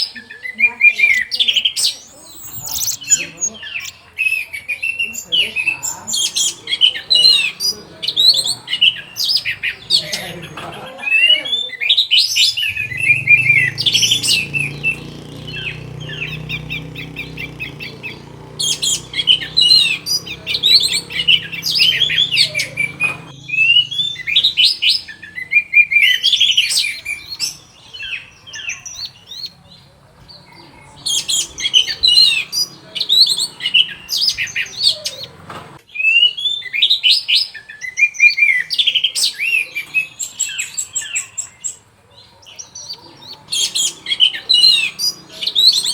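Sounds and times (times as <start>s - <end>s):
thrush singing: 0.5s - 35.8s, 42.9s - 45.9s.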